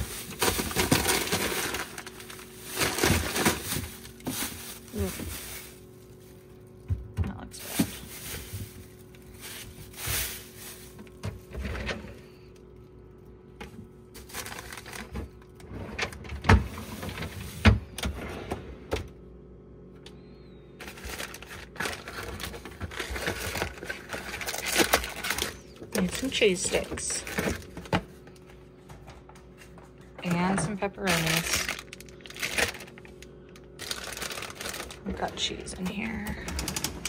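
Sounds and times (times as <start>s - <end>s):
refrigerator drawers clicking and knocking: 0.0s - 5.8s, 6.8s - 12.4s, 13.6s - 19.2s, 20.8s - 28.2s, 28.8s - 33.2s, 33.8s - 37.0s
plastic bag rustling: 0.0s - 12.4s, 14.0s - 17.9s, 20.8s - 37.0s.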